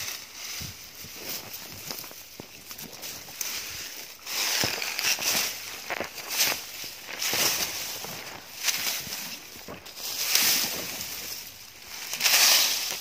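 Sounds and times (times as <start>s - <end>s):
footsteps through dry leaves: 0.0s - 13.0s.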